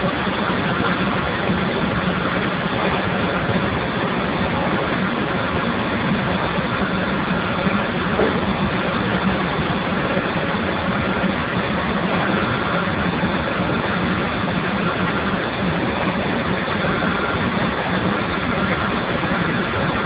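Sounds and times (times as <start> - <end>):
low hum: 0.0 - 20.0
steam boiler hissing: 0.0 - 20.0.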